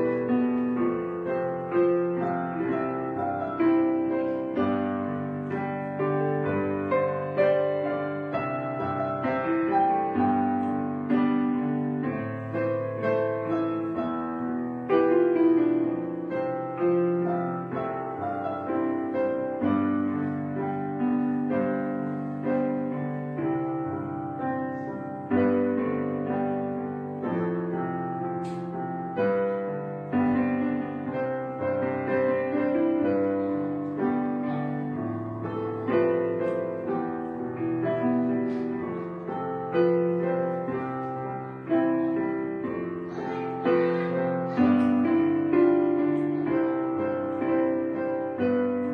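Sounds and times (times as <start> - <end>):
solo piano music: 0.0 - 48.9.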